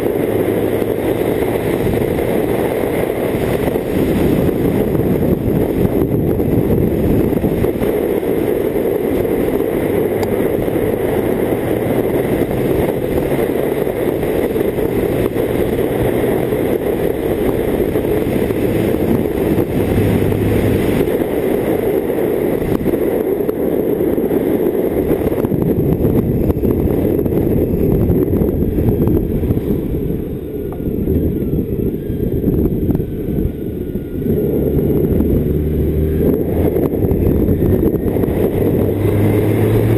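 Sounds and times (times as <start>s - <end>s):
motorcycle engine: 0.0s - 39.9s
wind rushing on microphone: 0.0s - 39.9s.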